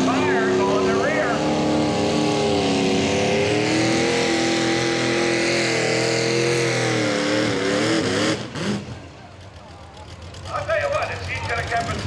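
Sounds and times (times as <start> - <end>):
tractor engine at full throttle: 0.0 - 12.0.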